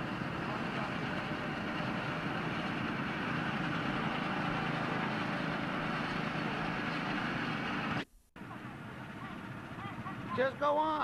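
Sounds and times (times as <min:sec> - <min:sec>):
go-kart engines running: 0:00.0 - 0:11.0.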